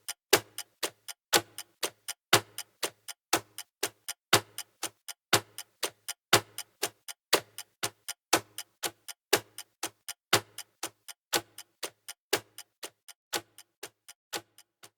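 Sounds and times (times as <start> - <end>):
clocks ticking: 0.0 - 14.7.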